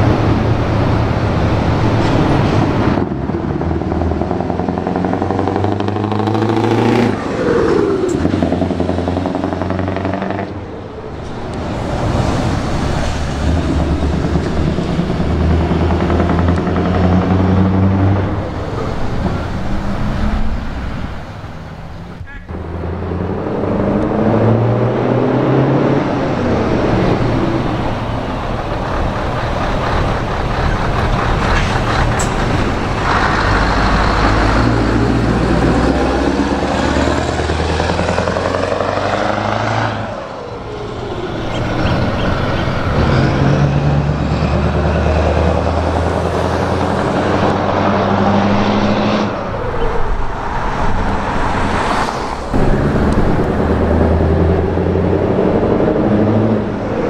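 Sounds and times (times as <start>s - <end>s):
diesel truck passing under load: 0.0s - 57.0s.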